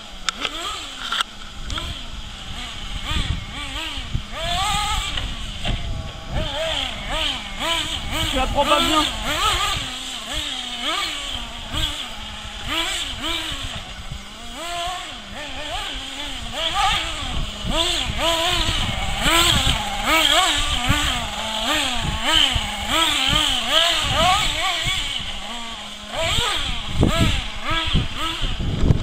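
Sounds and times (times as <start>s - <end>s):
rc buggy engine revving: 0.0s - 29.0s.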